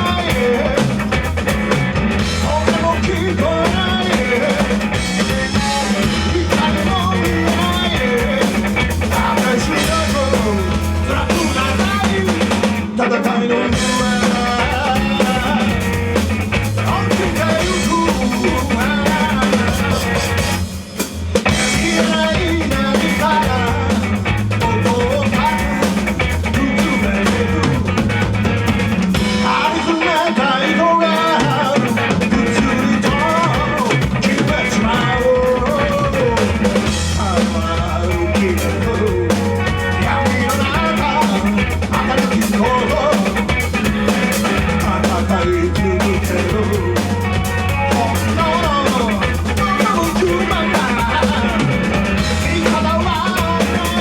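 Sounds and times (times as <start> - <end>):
bass line: 0.0 - 54.0
driving drum kit: 0.0 - 54.0
live rock band playing: 0.0 - 54.0.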